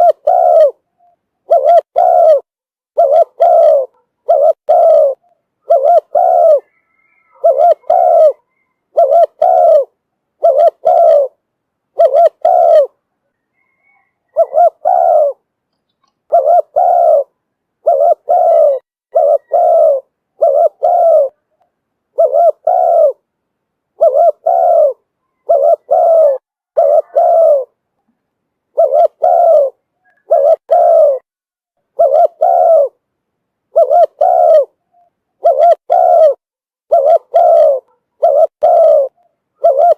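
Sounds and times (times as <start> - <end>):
dove cooing: 0.0 - 15.4, 16.0 - 23.3, 24.0 - 27.8, 28.7 - 31.3, 31.9 - 33.0, 33.7 - 39.9.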